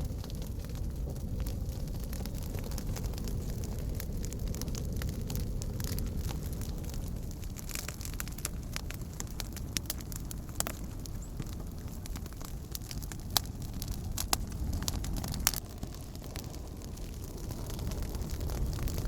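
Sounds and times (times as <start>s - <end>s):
campfire crackling and popping: 0.0s - 19.0s
steady low rumble: 0.0s - 19.0s.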